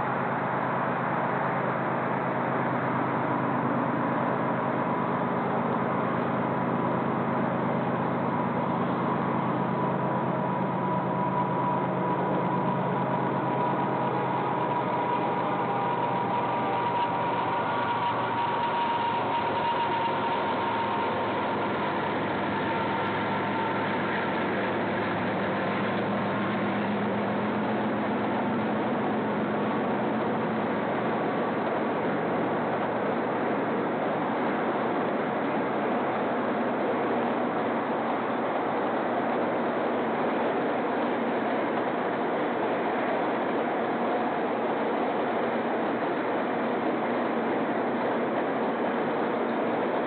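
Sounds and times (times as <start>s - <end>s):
faint steady whine: 0.0s - 50.0s
hum of distant vehicles: 0.0s - 50.0s.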